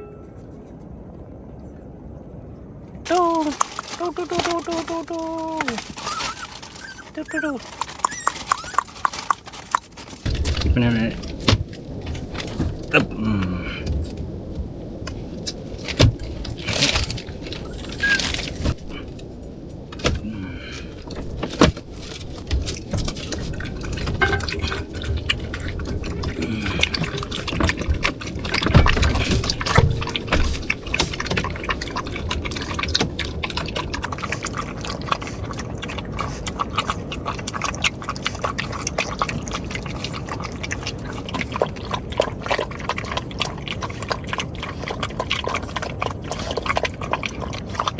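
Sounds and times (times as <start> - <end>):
water splashing and sloshing: 0.0 - 47.9.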